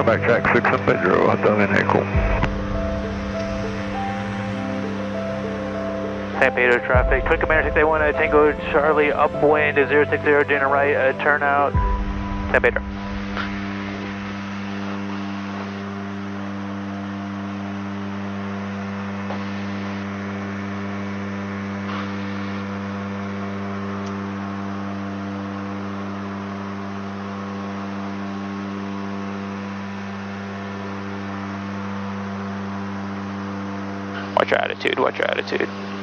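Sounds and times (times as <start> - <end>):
turboprop engines droning: 0.0 - 36.0.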